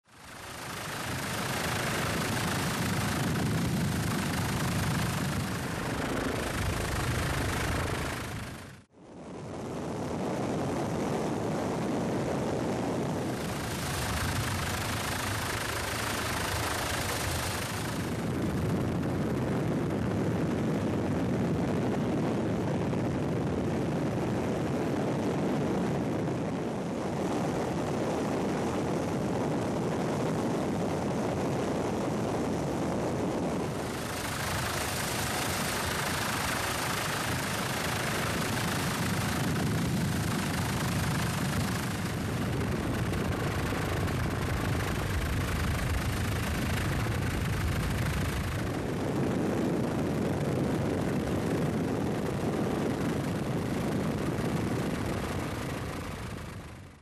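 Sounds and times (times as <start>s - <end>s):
helicopter engine and rotor: 0.1s - 8.9s, 11.3s - 57.0s.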